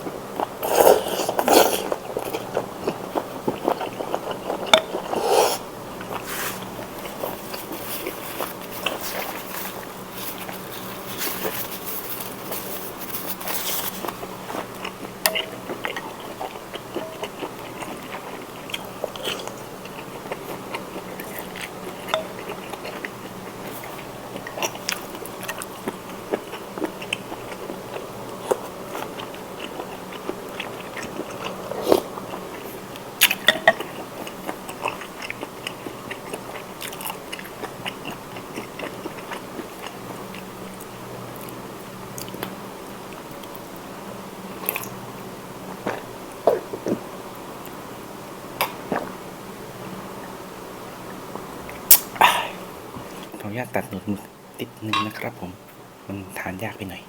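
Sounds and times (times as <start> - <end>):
wet chewing of noodles: 0.0 - 43.6, 44.5 - 45.0, 45.7 - 47.8.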